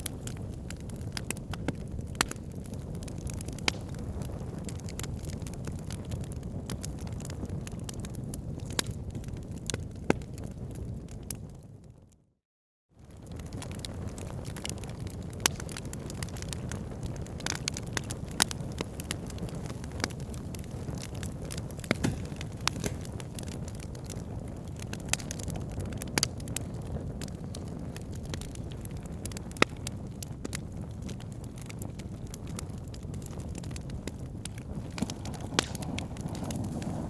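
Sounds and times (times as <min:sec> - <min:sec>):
fire crackles and pops: 0:00.0 - 0:12.2, 0:13.0 - 0:37.0
low rumble of flames: 0:00.0 - 0:12.2, 0:13.0 - 0:37.0.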